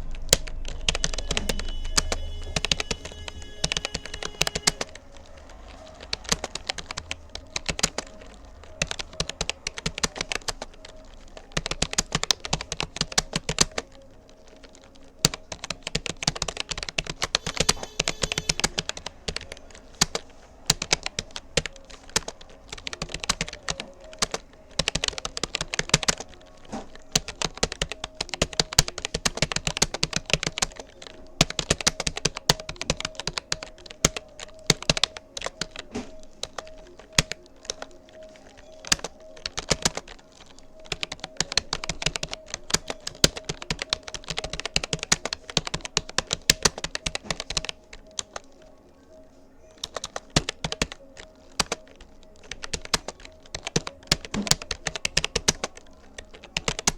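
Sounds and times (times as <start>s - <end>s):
keyboard typing clicks: 0.0s - 48.8s, 49.8s - 56.9s.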